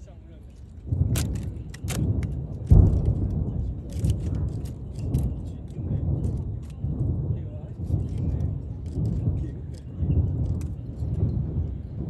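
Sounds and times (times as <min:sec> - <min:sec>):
fireworks crackling pops: 0:00.7 - 0:12.0
fireworks booming: 0:00.8 - 0:12.0.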